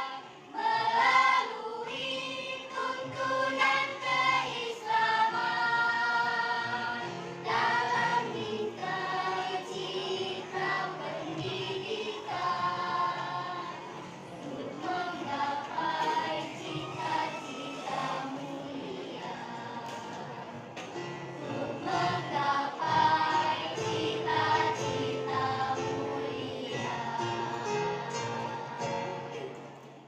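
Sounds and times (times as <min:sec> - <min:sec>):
choir singing: 0:00.0 - 0:30.0
musical accompaniment: 0:00.0 - 0:30.0.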